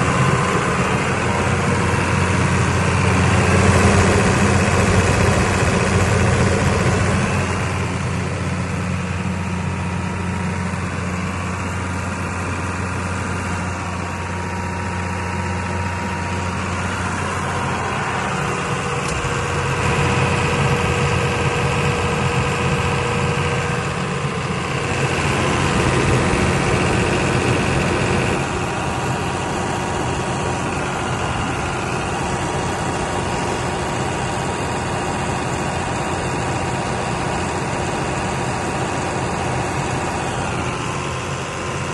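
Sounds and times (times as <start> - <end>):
diesel generator running: 0.0 - 41.9.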